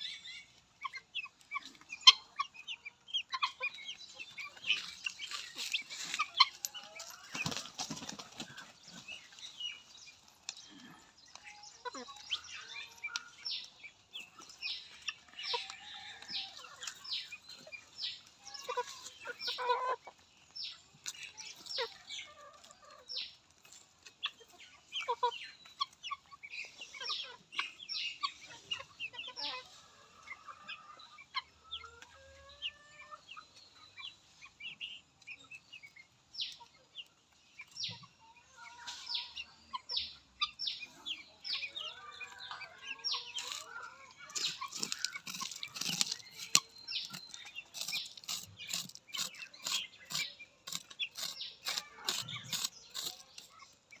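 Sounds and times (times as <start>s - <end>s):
chicks peeping: 0.0s - 54.0s
hen clucking: 0.0s - 54.0s.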